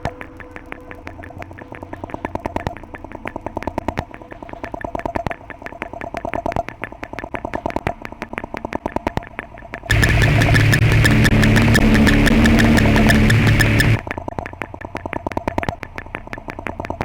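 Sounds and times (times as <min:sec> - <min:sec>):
faint steady hum: 0:00.0 - 0:14.3
sharp clicks and taps: 0:00.0 - 0:17.0.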